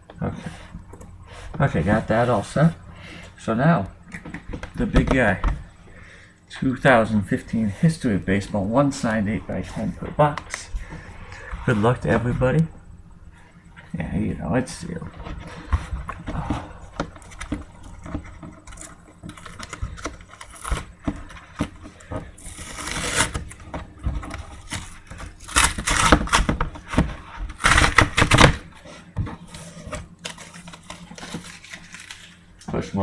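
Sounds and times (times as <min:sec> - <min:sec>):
plastic wrap and cardboard crinkling: 0:01.3 - 0:33.0.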